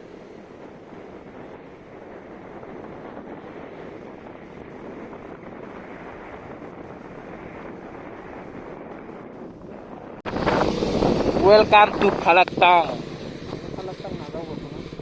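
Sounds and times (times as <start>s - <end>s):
motorcycle engine and road noise: 0.0s - 15.0s
wind on microphone: 0.0s - 15.0s.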